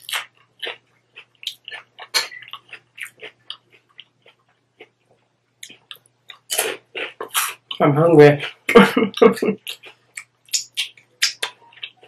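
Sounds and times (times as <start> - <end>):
person chewing crunchy food: 0.0 - 7.8, 8.4 - 12.0.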